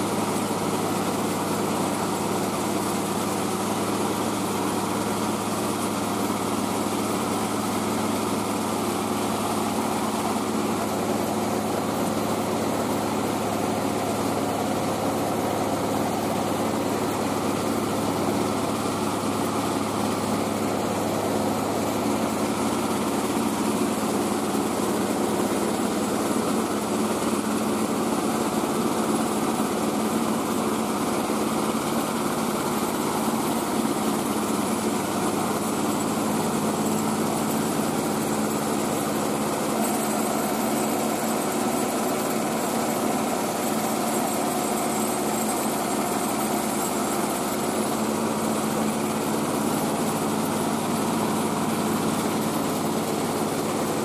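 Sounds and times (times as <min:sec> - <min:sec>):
rice mill engine droning: 0:00.0 - 0:54.0.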